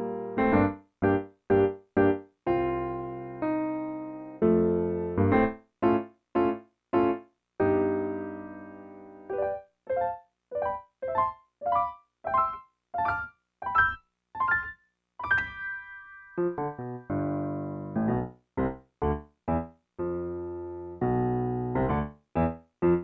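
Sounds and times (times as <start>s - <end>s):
piano playing: 0.0s - 23.0s.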